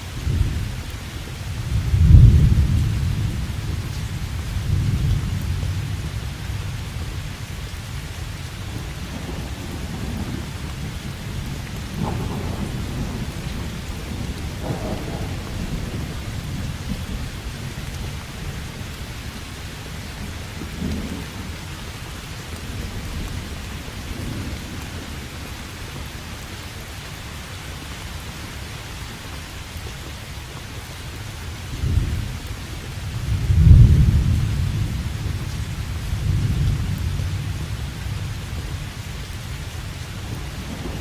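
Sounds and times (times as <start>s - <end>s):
steady rain: 0.0s - 41.0s
thunder rumbling: 1.4s - 26.0s, 31.7s - 41.0s.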